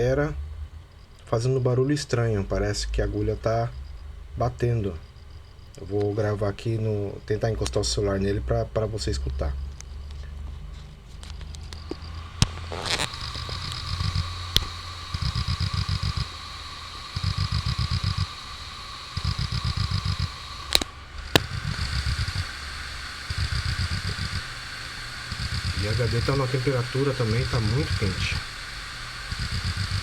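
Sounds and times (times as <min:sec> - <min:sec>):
hard drive rapid ticking: 0:00.0 - 0:10.6, 0:11.2 - 0:30.0
steady hum: 0:00.0 - 0:30.0.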